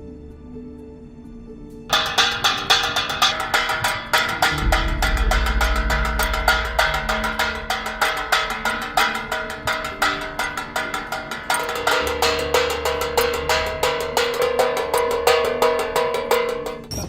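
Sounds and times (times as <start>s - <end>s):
low bass line: 1.9s - 16.7s
percussion-led music with fast beat: 1.9s - 17.0s.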